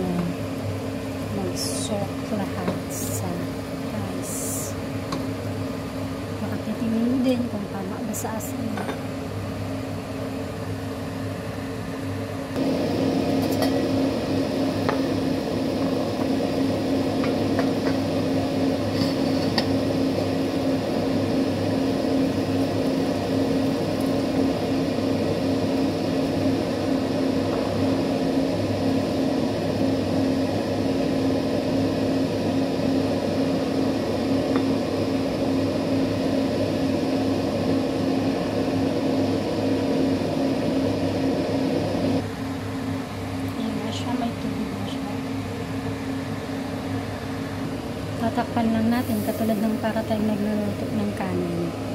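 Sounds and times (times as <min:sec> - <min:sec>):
extractor fan humming: 0:00.0 - 0:51.9.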